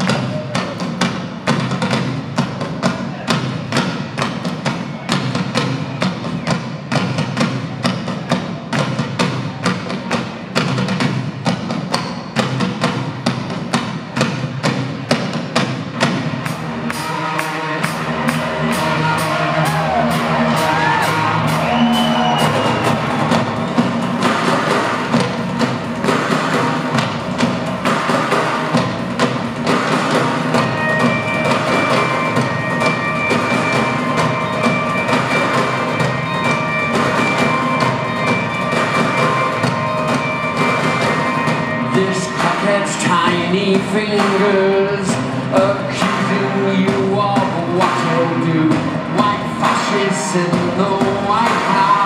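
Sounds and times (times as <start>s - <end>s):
drum kit: 0.0s - 52.0s
keyboards: 0.0s - 52.0s.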